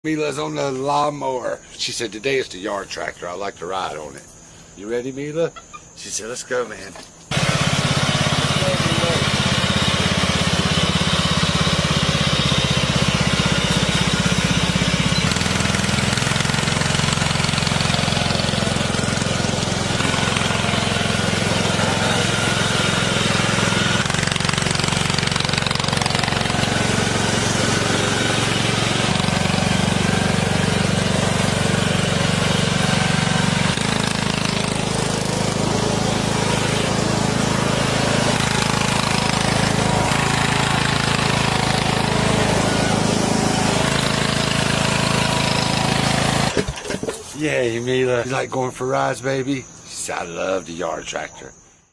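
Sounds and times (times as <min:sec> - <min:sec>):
riding lawn mower engine: 0:00.0 - 0:51.3.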